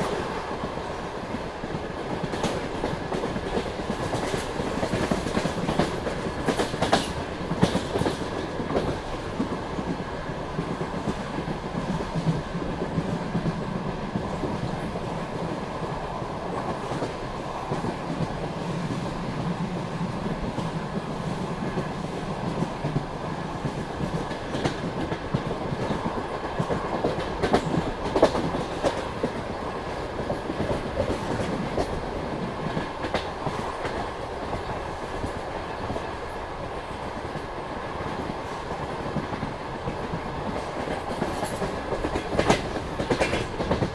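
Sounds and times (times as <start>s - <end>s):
train wheels clacking over track: 0.0s - 43.9s
train wheels rumbling on rails: 0.0s - 43.9s.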